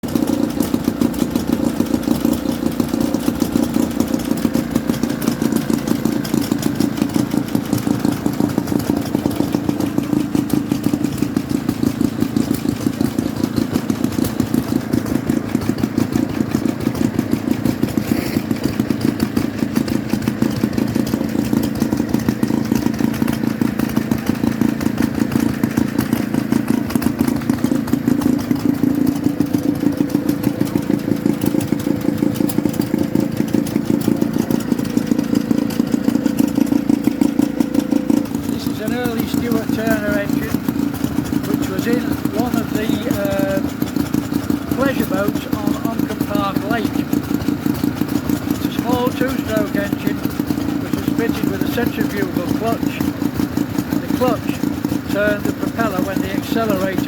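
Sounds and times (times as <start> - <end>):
two-stroke boat engine running: 0.0 - 57.0.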